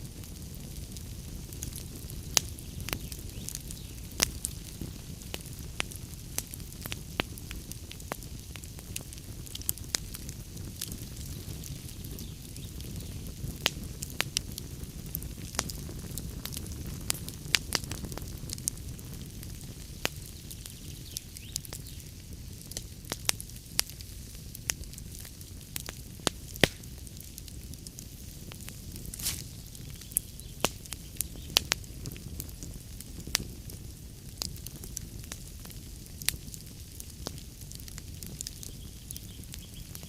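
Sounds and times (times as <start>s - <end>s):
fire rumbling and crackling: 0.0s - 40.0s.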